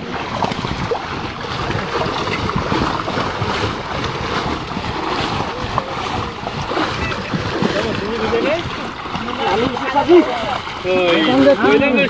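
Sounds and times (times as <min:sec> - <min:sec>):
wind on microphone: 0:00.0 - 0:11.7
water splashing and sloshing: 0:00.0 - 0:12.0.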